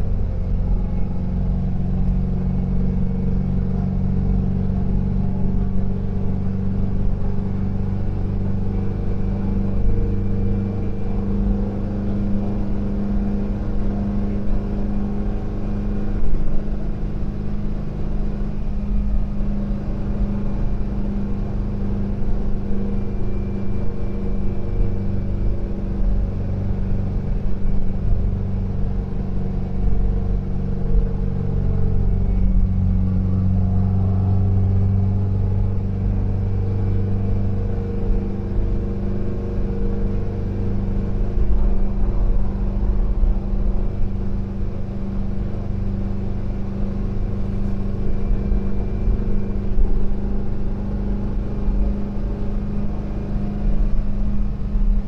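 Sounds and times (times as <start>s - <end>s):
van engine running: 0.0s - 55.0s.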